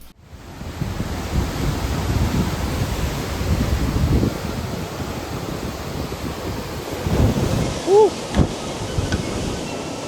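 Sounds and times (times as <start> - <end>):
wind buffeting the microphone: 0.1 - 10.0.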